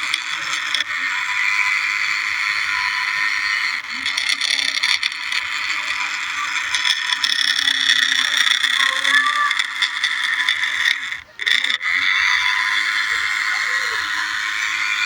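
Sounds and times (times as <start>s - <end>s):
toy tractor motor whirring: 0.0s - 15.0s.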